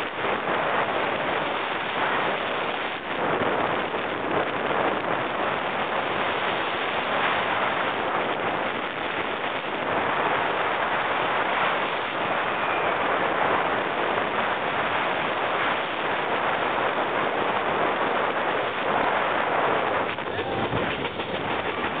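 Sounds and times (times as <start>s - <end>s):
roller coaster rattling on rails: 0.0s - 22.0s
wind rushing over microphone: 0.0s - 22.0s.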